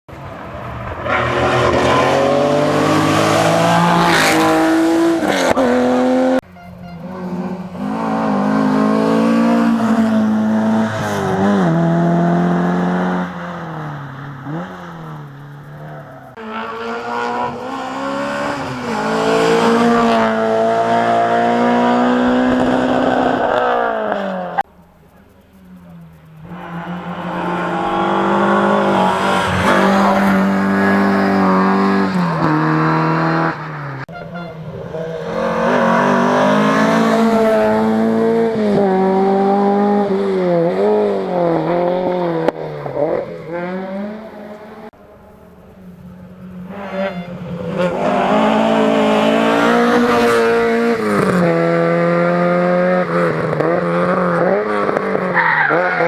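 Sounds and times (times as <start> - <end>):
rally car engines revving: 0.1 - 56.0.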